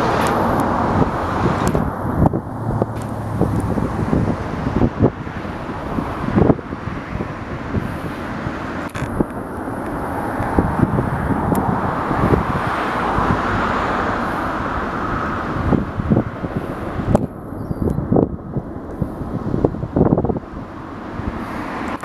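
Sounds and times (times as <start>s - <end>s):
traffic rumble: 0.0s - 22.0s
wind buffeting microphone: 0.0s - 22.0s.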